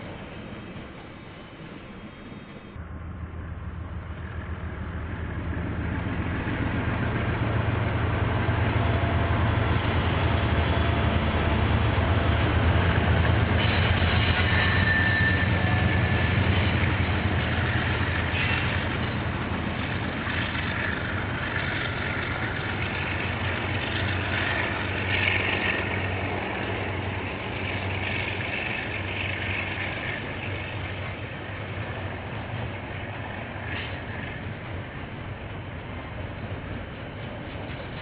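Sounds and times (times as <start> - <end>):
diesel locomotive drone: 0.0 - 38.0
freight wagon wheels on rails: 0.0 - 38.0.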